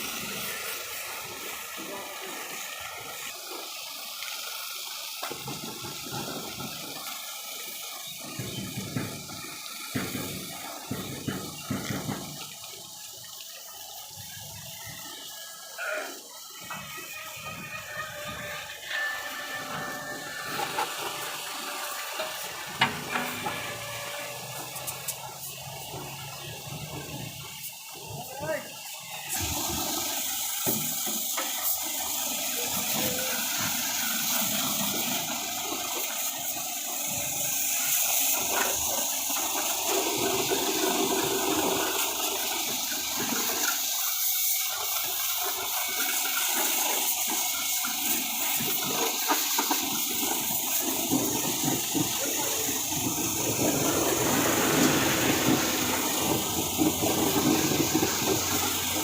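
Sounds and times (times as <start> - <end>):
water jet spraying: 0.0 - 59.0.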